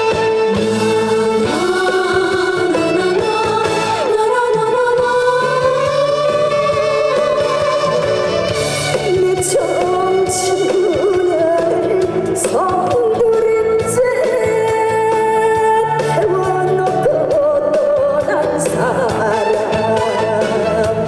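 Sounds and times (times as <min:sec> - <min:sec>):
amplified band accompaniment: 0:00.0 - 0:21.0
woman singing into a microphone: 0:00.0 - 0:21.0.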